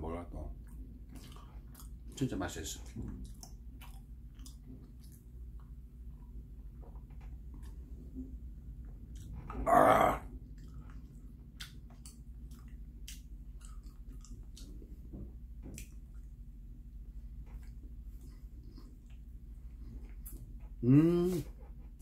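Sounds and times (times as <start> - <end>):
person chewing bread: 0.5 - 22.0.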